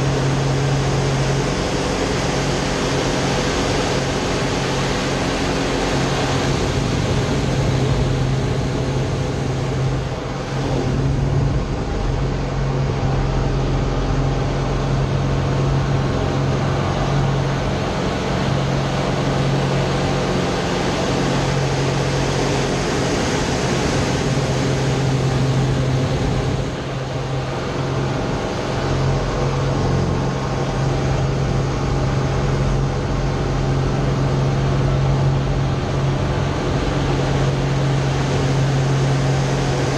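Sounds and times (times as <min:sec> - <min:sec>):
airflow rushing over canopy: 0:00.0 - 0:39.9
airplane engine and propeller droning: 0:00.0 - 0:39.9.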